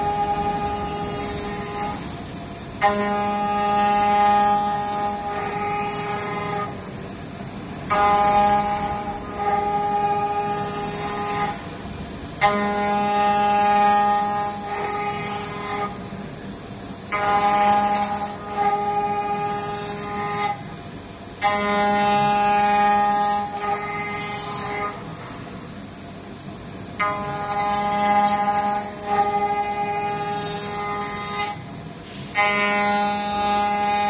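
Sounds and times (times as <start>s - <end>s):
cnc spindle routing wood: 0.0s - 34.0s.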